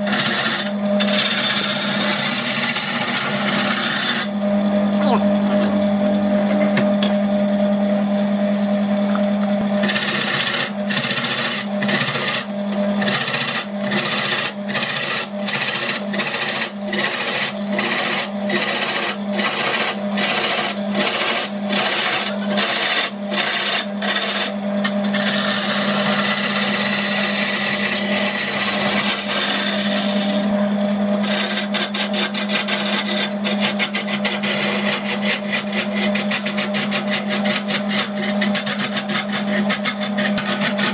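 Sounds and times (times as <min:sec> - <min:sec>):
lathe motor humming: 0:00.0 - 0:40.9
tool rasping on spinning wood: 0:00.0 - 0:40.9.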